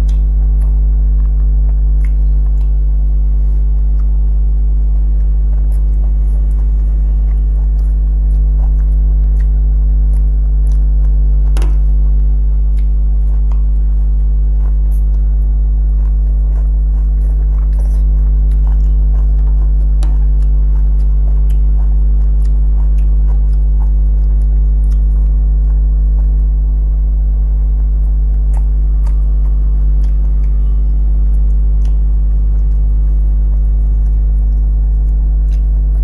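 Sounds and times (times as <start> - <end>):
eating sounds: 0.0 - 36.0
electrical mains hum: 0.0 - 36.0.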